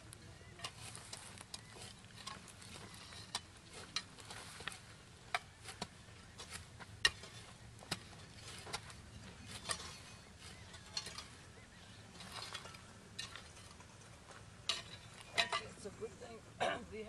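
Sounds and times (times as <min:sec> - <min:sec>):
hand tools scraping dirt: 0:00.0 - 0:16.0.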